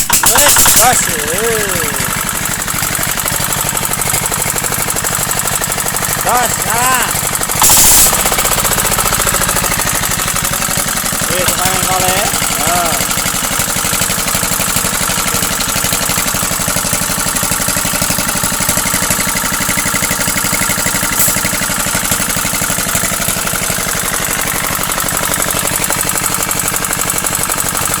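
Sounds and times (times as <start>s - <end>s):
concrete mixer engine running: 0.0s - 28.0s.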